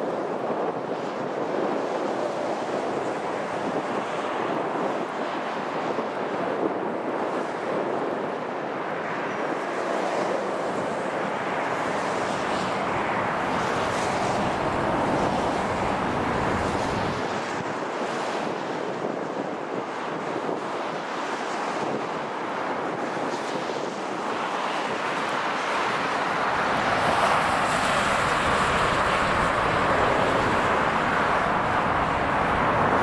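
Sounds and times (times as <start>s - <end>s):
highway traffic rushing: 0.0s - 33.0s.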